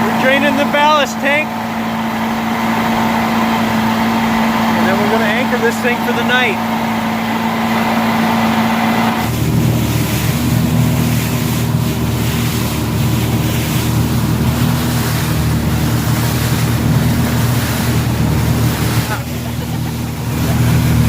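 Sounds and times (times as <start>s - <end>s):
boat engine drone: 0.0s - 21.0s
high steady hum: 0.0s - 21.0s
water rushing along hull: 0.0s - 21.0s.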